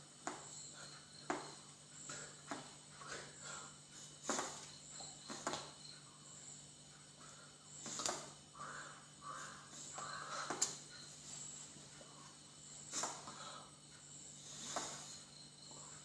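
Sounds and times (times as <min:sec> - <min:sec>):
faint insect chirring: 0:00.0 - 0:16.0
steady low hum: 0:00.0 - 0:16.0.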